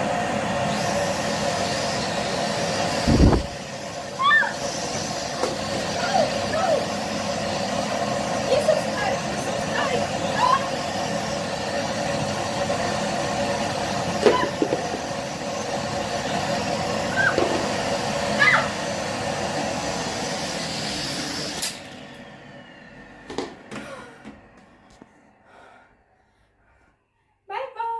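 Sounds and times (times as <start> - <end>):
vacuum cleaner motor whining: 0.0 - 25.8.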